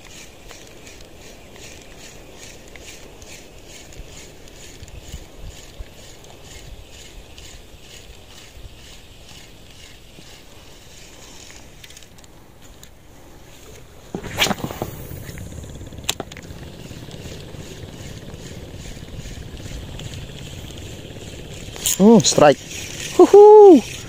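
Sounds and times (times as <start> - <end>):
fishing reel ticking: 0.0 - 13.0, 15.0 - 24.0
wind and water hiss: 0.0 - 24.0.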